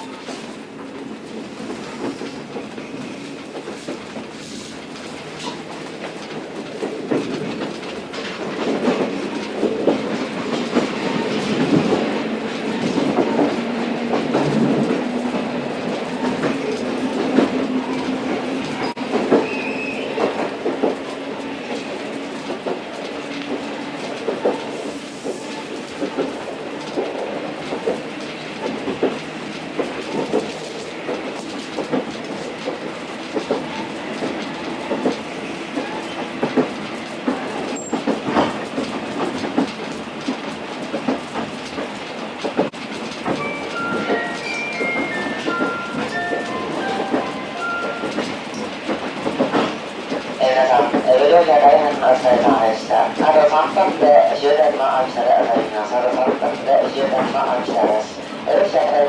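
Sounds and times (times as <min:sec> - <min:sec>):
train rumble: 0:00.0 - 0:59.0
wheels clicking over rail joints: 0:00.1 - 0:58.0.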